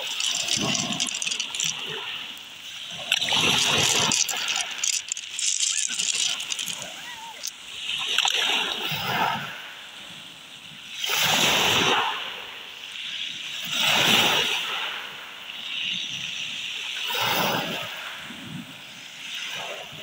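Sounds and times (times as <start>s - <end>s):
waves washing over pebbles: 0.0s - 20.0s.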